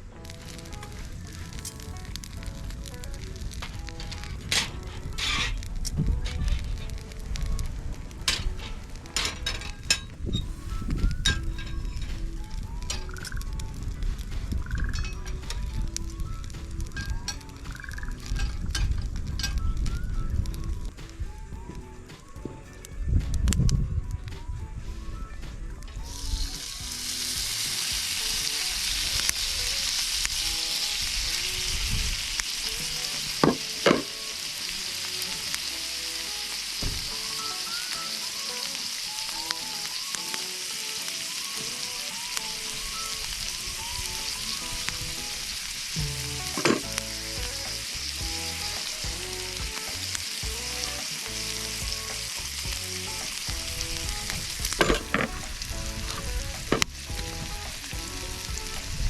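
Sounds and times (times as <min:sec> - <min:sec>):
food sizzling in a pan: 0:00.2 - 0:22.4, 0:26.0 - 0:59.0.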